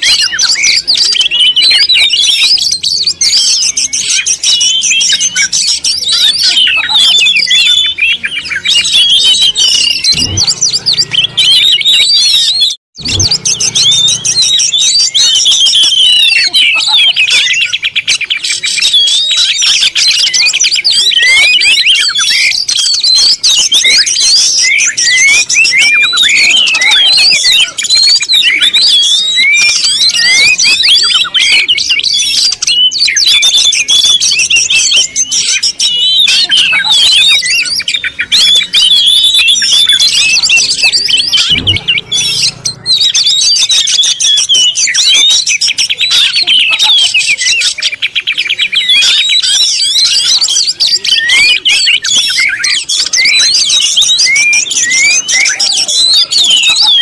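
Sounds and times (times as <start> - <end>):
many small birds chirping: 0.0 - 57.0.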